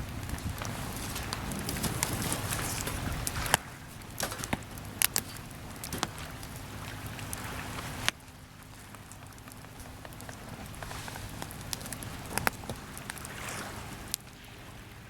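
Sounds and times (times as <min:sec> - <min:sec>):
campfire crackling: 0:00.0 - 0:15.0
sea waves washing: 0:00.0 - 0:15.0.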